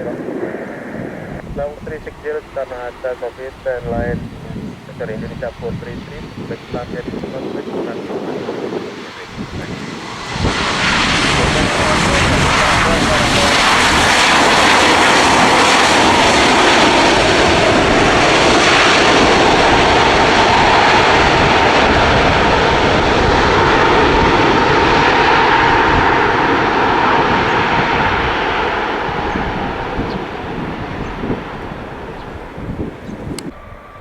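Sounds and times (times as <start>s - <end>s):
jet airliner landing: 0.0s - 34.0s
steady engine whine: 0.0s - 34.0s.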